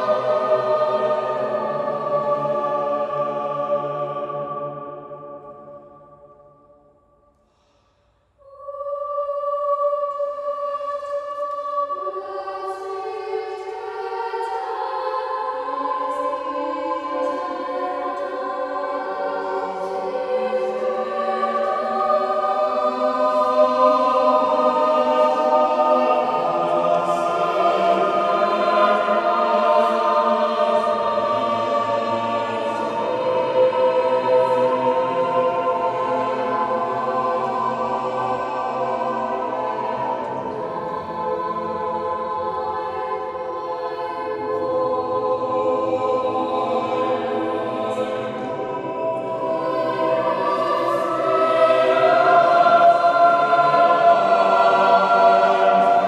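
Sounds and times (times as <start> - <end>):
mixed choir singing: 0.0 - 6.8, 8.4 - 56.0.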